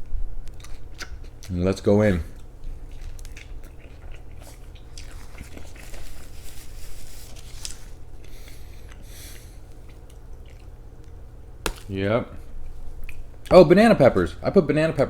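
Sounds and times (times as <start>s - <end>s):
person chewing pizza: 0.4s - 13.6s.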